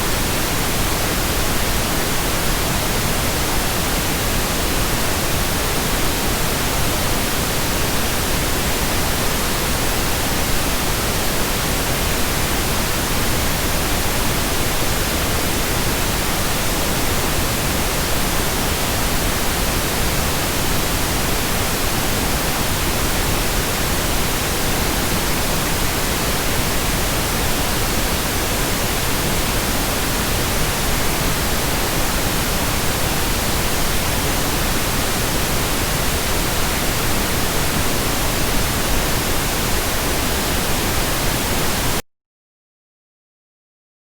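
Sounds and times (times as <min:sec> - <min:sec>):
pink noise hiss: 0:00.0 - 0:42.0.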